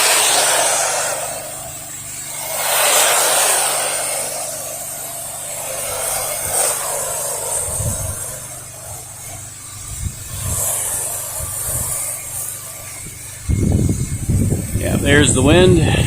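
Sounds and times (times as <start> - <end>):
loud hissing water spray: 0.0 - 16.0
low rumbles: 0.0 - 16.0
pressure washer engine hum: 0.0 - 16.0.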